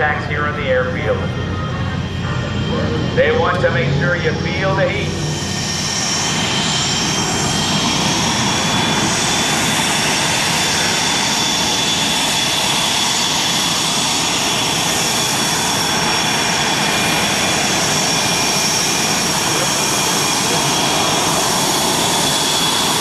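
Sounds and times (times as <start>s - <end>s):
jet engines rushing and whining: 0.0s - 23.0s.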